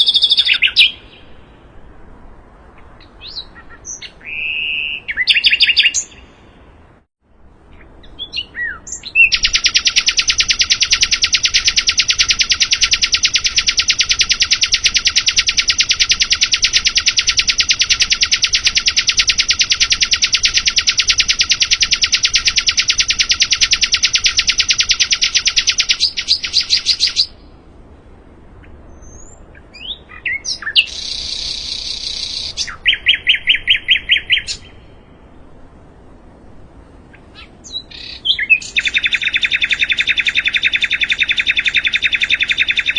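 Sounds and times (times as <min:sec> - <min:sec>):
songbird trilling: 0:00.0 - 0:01.5, 0:02.7 - 0:06.5, 0:07.7 - 0:27.5, 0:28.6 - 0:35.2, 0:37.1 - 0:42.9
bird chirps: 0:00.0 - 0:01.7, 0:02.7 - 0:06.7, 0:07.7 - 0:27.6, 0:28.6 - 0:35.4, 0:37.1 - 0:42.9
buzzy bird phrase: 0:00.0 - 0:01.8, 0:02.6 - 0:06.8, 0:07.7 - 0:27.6, 0:28.6 - 0:35.5, 0:37.0 - 0:42.9.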